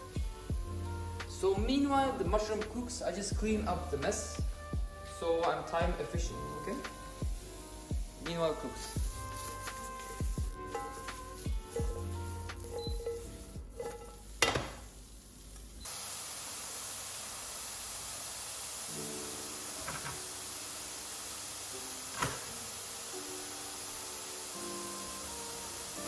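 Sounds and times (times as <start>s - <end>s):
mushrooms sizzling in a pan: 0.0s - 26.0s.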